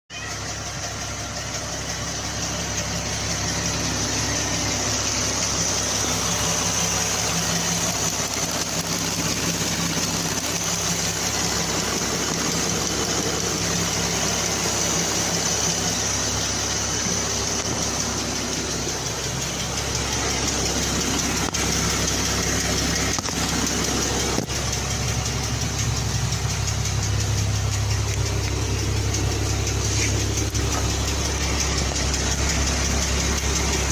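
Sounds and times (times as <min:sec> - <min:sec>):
car engine idling: 0:00.1 - 0:33.9
fast light valve ticking: 0:01.5 - 0:33.9.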